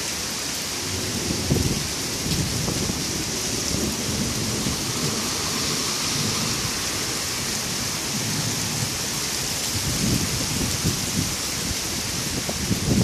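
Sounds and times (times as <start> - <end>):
heavy rain on street: 0.0 - 13.0.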